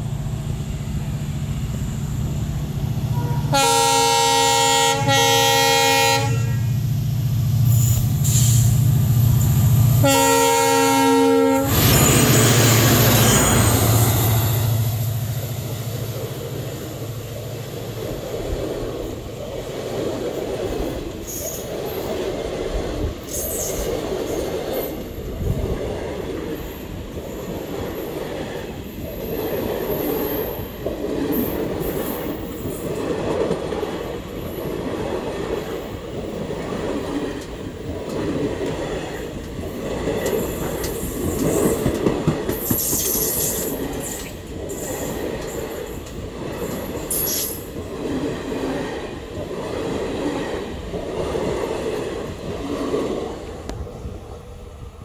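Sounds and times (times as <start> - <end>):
diesel locomotive engine hum: 0.0 - 55.0
train wheels rumbling on rails: 0.0 - 55.0.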